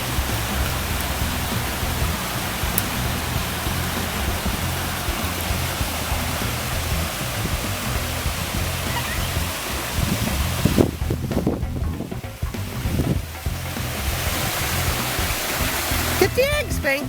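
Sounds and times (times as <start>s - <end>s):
low background music: 0.0s - 17.0s
waterfall rushing: 0.0s - 17.0s.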